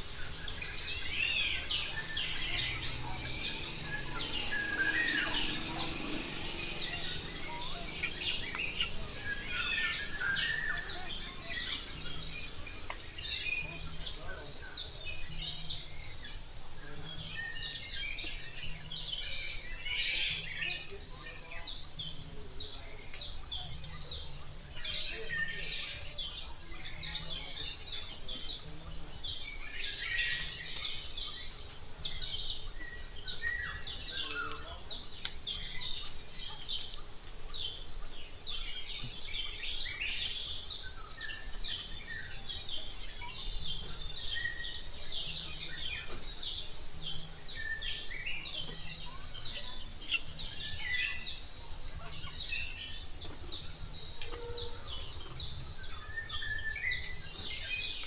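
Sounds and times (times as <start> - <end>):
birds chirping: 0.0 - 58.0
pulsing insect trill: 0.0 - 58.0.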